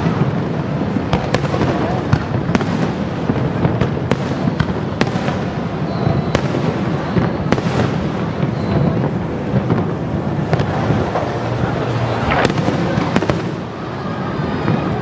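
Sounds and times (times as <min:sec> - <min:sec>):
fireworks booming: 0:00.0 - 0:15.0
sharp firework cracks: 0:00.0 - 0:15.0.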